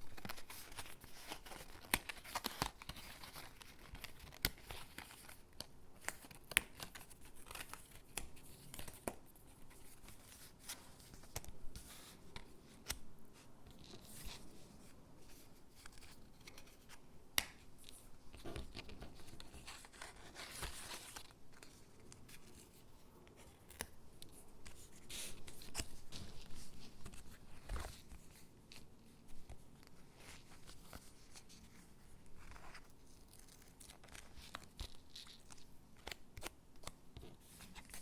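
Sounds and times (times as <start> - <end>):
stickers peeling and paper rustling: 0.0 - 13.1, 13.7 - 38.0.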